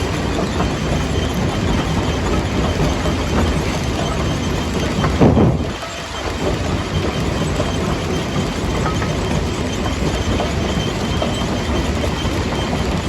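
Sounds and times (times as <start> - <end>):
jaw crusher grinding stone: 0.1 - 13.0.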